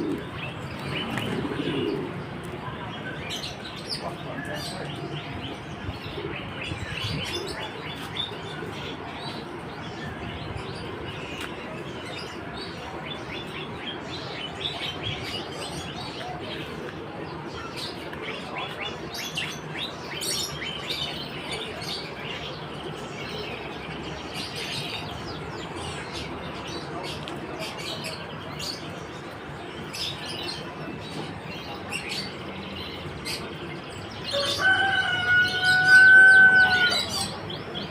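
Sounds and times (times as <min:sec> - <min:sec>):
songbirds chirping and twittering: 0:00.0 - 0:37.9.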